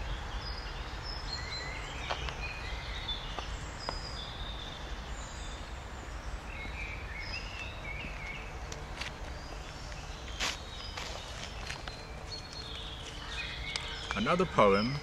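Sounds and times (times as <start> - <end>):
songbirds chirping and calling: 0.0 - 15.0.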